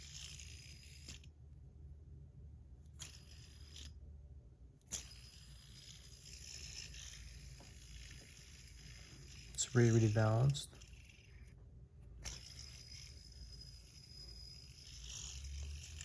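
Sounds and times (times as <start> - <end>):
fidget spinner whirring: 0.0 - 1.8, 2.6 - 16.0.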